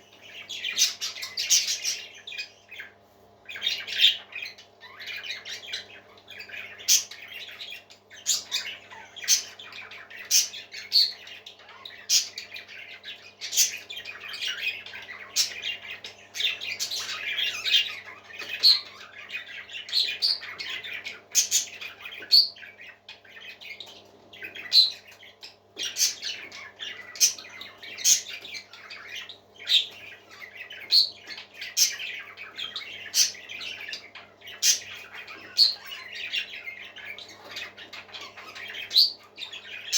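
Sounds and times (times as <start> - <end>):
parrots squawking: 0.0 - 39.9.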